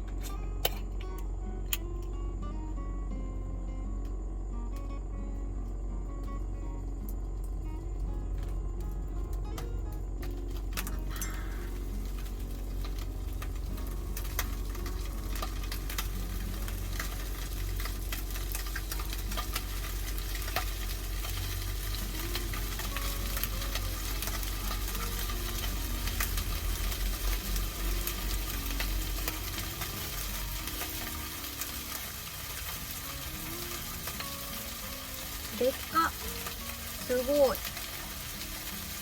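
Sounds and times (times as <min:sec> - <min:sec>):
small clicks and crackles: 0:05.6 - 0:39.0
food sizzling in a pan: 0:06.0 - 0:39.0.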